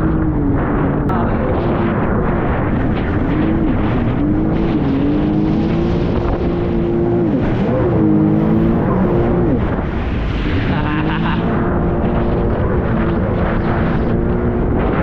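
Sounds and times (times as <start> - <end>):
jet ski engine running: 0.0 - 15.0
steady rush of noise: 0.0 - 15.0.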